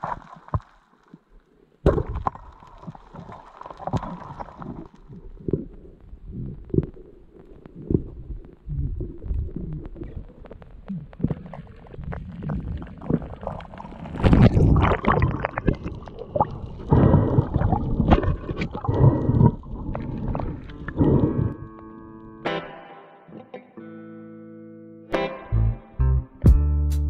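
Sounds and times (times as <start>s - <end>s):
underwater rumbling and gurgling: 0.0s - 22.3s.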